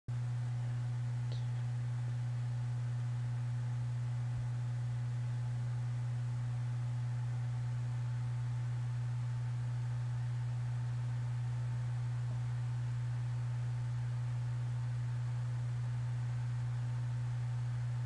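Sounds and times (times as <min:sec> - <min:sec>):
low-pitched hum: 0:00.2 - 0:18.0.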